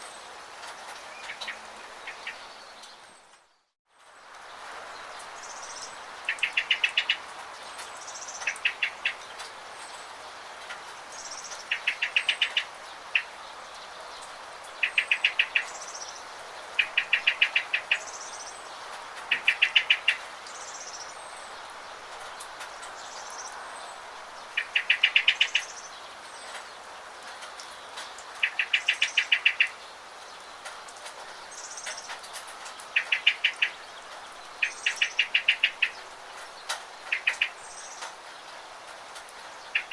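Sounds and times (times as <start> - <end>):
songbird chirping: 0.0 - 39.9
steady rain hiss: 0.0 - 39.9.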